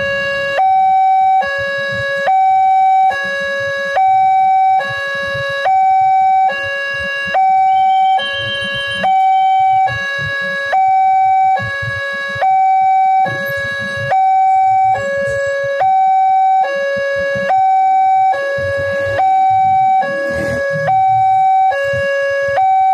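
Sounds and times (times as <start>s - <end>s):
level crossing alarm two-tone: 0.0s - 22.9s.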